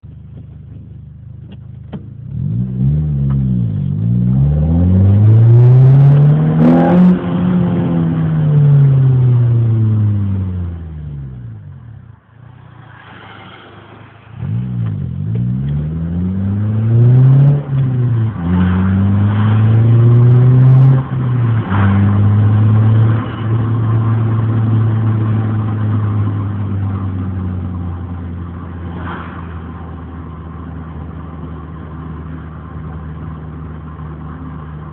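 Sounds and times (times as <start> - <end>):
car engine revving: 0.7 - 34.9.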